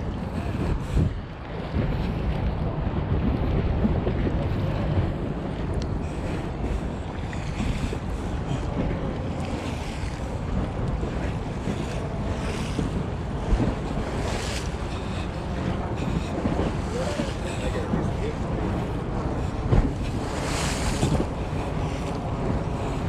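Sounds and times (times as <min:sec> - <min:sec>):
waves washing onto beach: 0:00.0 - 0:23.0
wind rumbling on microphone: 0:00.0 - 0:23.0.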